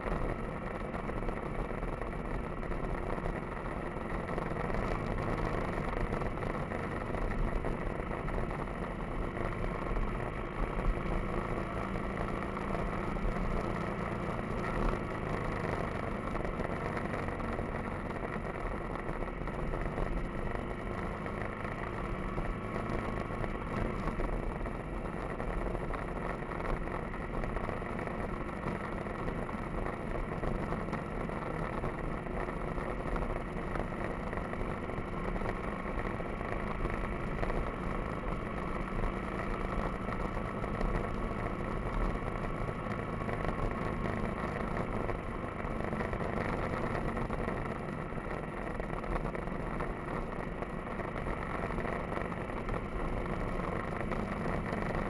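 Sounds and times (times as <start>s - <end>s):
motorcycle engine running: 0.0s - 55.0s
road noise: 0.0s - 55.0s.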